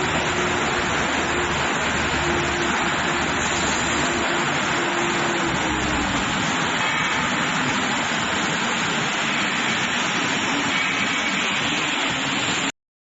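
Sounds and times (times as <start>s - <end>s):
steady industrial rush: 0.0s - 12.7s.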